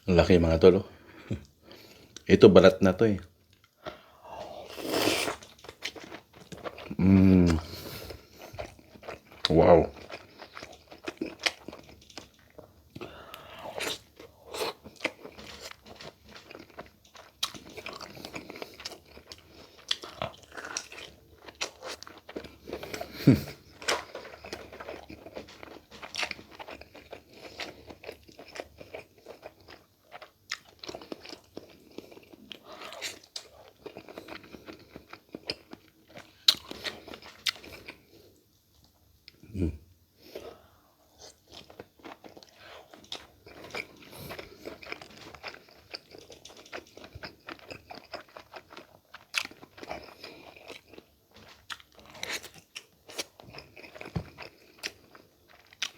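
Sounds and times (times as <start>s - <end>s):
chewing and crunching food: 3.0s - 39.5s, 40.2s - 55.9s.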